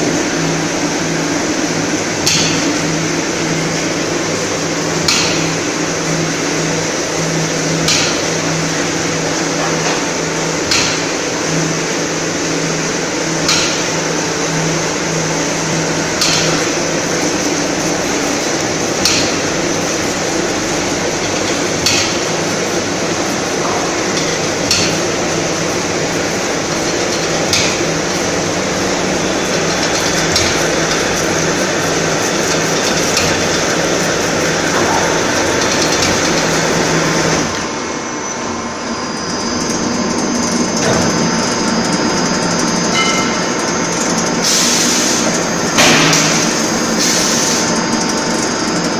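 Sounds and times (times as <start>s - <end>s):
veneer lathe machine hum: 0.0s - 48.9s.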